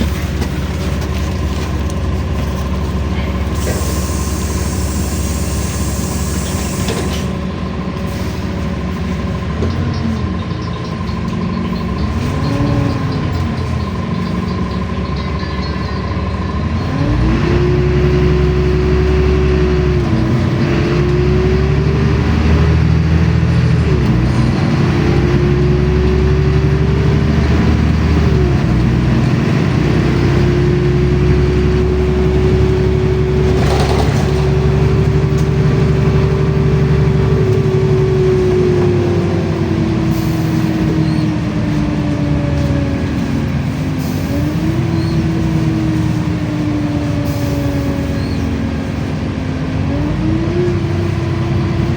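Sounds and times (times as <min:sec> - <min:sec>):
bus engine rumble: 0:00.0 - 0:51.9
drivetrain whine: 0:00.0 - 0:51.9.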